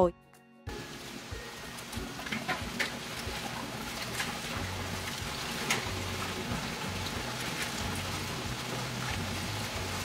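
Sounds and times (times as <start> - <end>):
tap water pouring into basin: 0.7 - 10.0
hands stirring beans in water: 1.8 - 10.0.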